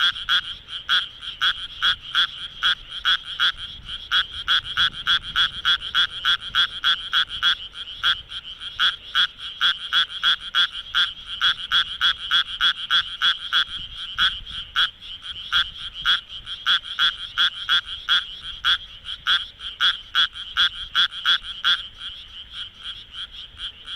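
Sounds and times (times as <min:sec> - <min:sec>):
tree frog croaking: 0:00.0 - 0:23.9.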